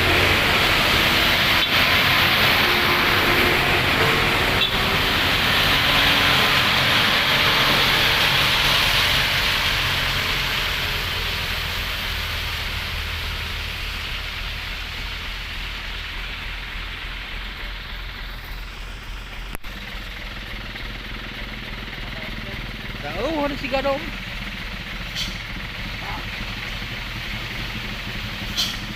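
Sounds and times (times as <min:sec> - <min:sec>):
tyre hiss on wet road: 0:00.0 - 0:22.2, 0:24.1 - 0:28.9
truck engine rumble: 0:00.0 - 0:28.9.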